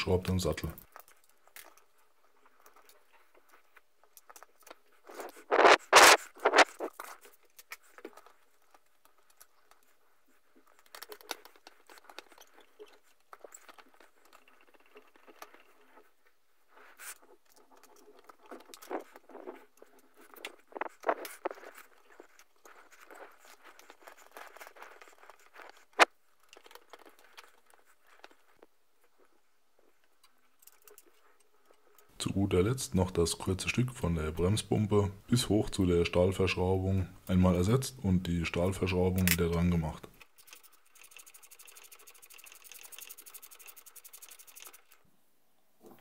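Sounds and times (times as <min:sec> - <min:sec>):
gloved hands scraping and rustling: 0:00.0 - 0:45.1.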